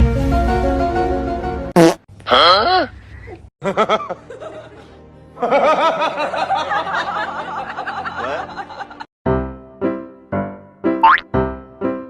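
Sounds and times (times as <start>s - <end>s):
music: 0.0s - 1.8s, 3.8s - 12.0s.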